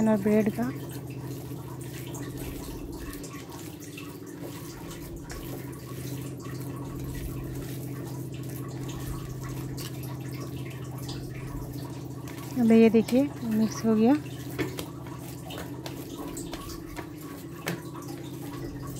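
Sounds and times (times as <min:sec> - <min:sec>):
hand kneading wet meat mixture: 0:00.0 - 0:18.9.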